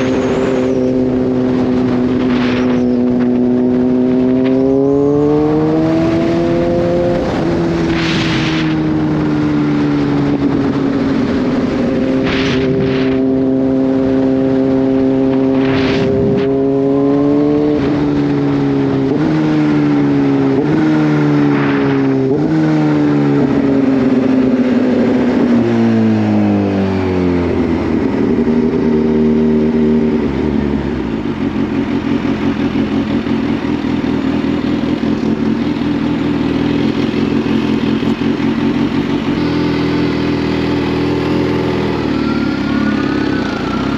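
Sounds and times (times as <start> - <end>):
motorcycle engine accelerating and shifting: 0.0 - 43.9.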